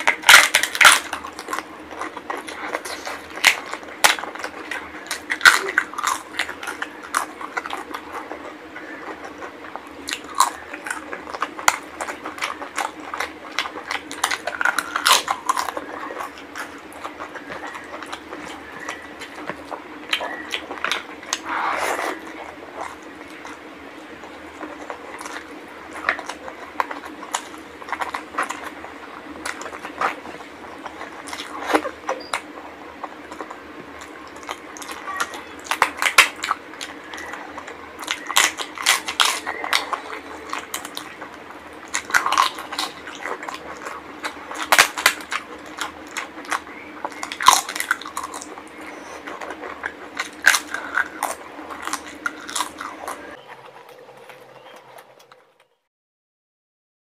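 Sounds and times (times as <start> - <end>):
lip smacks: 0.0 - 55.4
wet chewing: 0.0 - 55.5
crunching: 0.0 - 55.7
steady low hum: 0.0 - 55.9.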